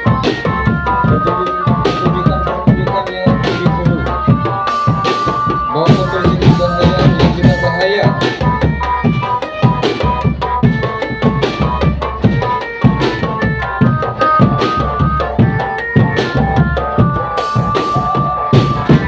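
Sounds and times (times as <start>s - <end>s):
snare and bass drums: 0.0s - 19.0s.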